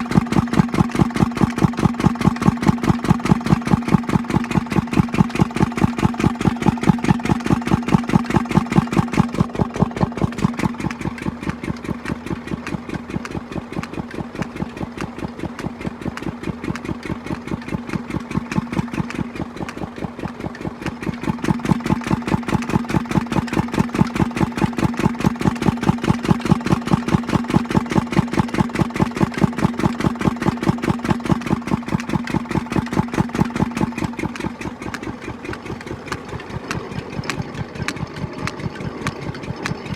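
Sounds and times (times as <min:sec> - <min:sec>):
water pump engine chugging: 0:00.0 - 0:39.9.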